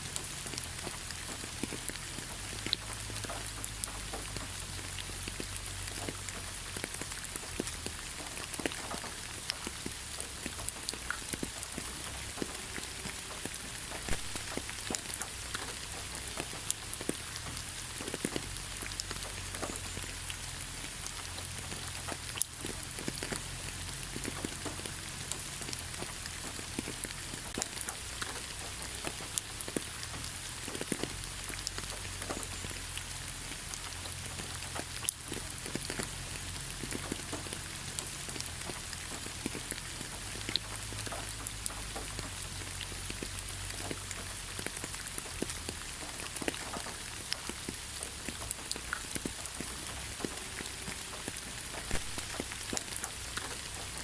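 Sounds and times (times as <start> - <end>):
rain drops pattering: 0.0 - 54.0.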